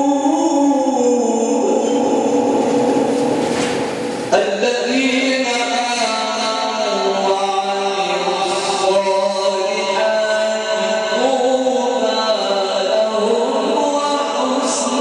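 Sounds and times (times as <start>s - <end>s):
man reciting melodically: 0.0s - 3.1s, 4.3s - 15.0s.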